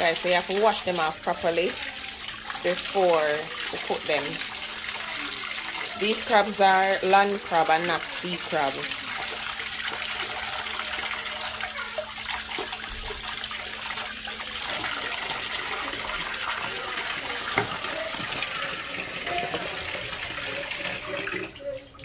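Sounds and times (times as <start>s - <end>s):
tap water splashing: 0.0s - 22.0s.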